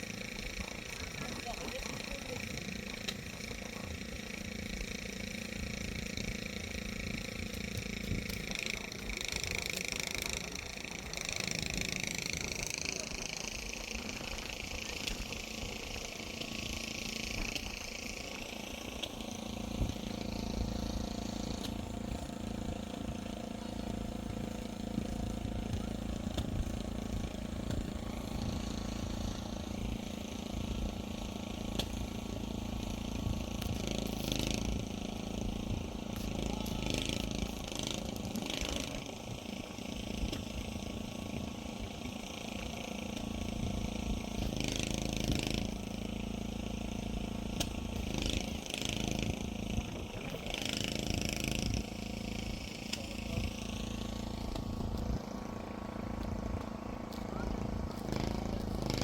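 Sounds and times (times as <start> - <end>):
engine humming steadily: 0.0 - 59.0.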